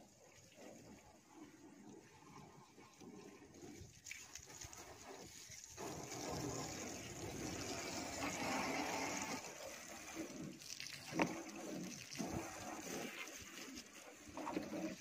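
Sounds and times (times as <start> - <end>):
hose water splashing on car: 0.0 - 15.0.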